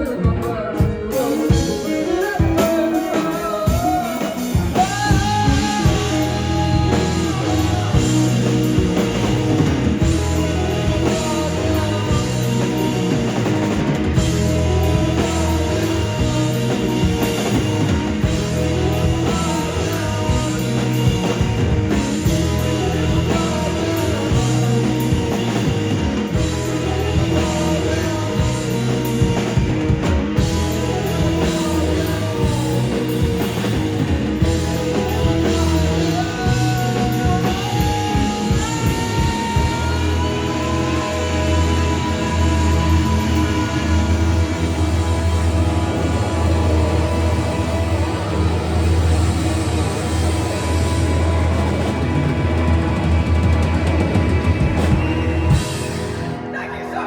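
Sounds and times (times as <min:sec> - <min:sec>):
person singing: 0:00.0 - 0:53.5
rock band playing loudly: 0:00.0 - 0:57.0.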